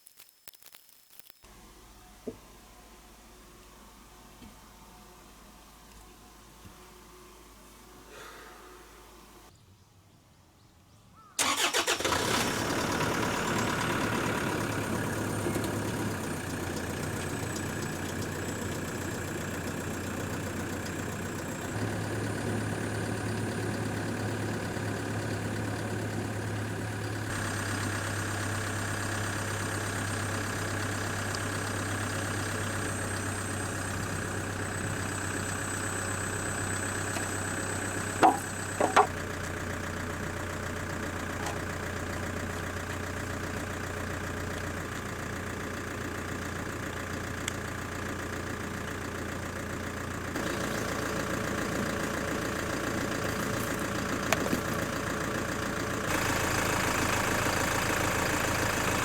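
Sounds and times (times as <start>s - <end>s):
vehicle engine running: 11.4s - 59.0s.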